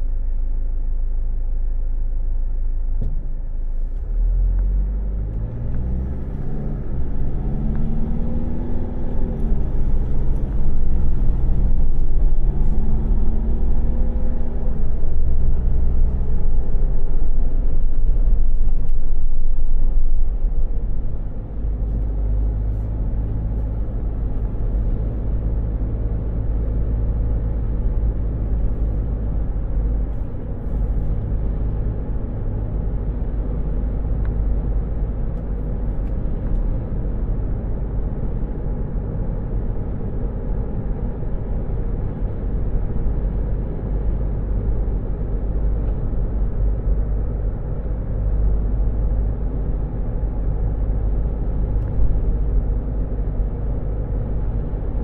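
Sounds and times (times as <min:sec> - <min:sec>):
car engine rumble from inside: 0:00.0 - 0:55.0.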